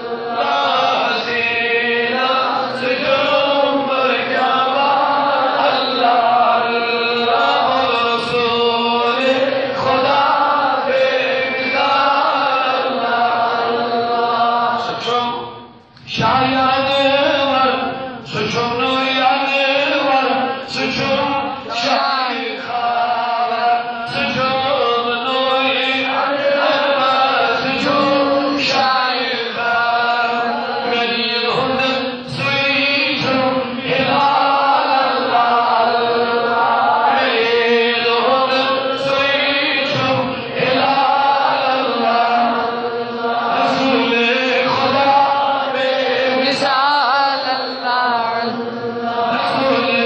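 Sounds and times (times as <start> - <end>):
man chanting into a microphone: 0.0 - 50.0.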